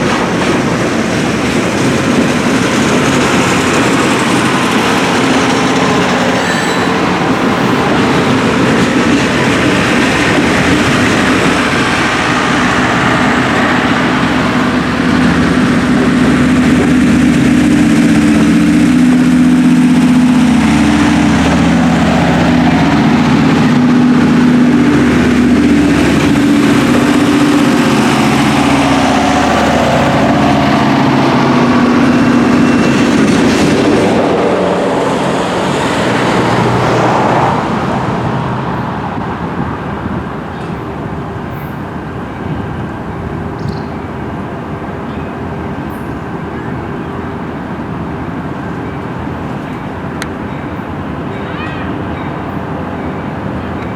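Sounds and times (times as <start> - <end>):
diesel locomotive engine: 0.0 - 53.9
train cars rolling on rails: 0.0 - 53.9.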